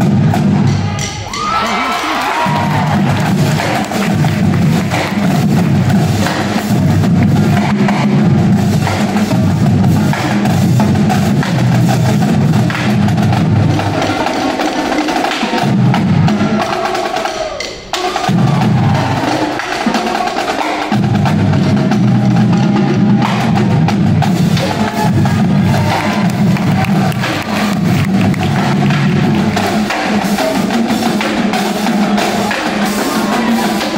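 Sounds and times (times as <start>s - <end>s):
marching bass drums: 0.0s - 33.9s
marching drumline playing: 0.0s - 33.9s.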